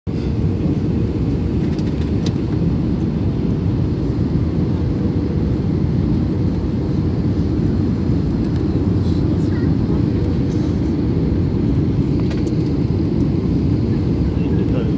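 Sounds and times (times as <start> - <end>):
airliner cabin rumble: 0.1 - 14.9.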